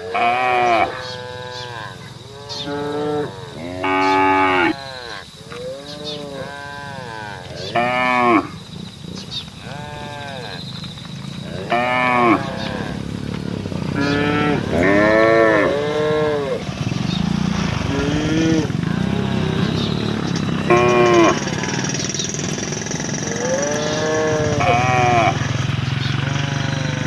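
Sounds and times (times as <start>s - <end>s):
cattle mooing: 0.0s - 8.6s, 9.6s - 10.8s, 11.4s - 16.7s, 17.8s - 26.1s.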